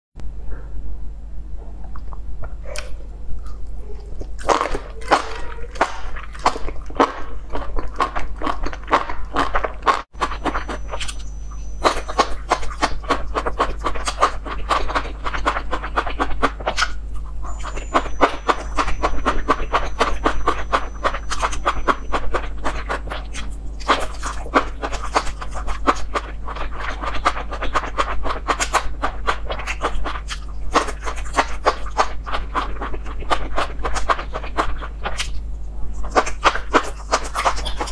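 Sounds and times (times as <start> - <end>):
steady low hum: 0.2 - 37.9
wet crunchy chewing: 1.7 - 37.9.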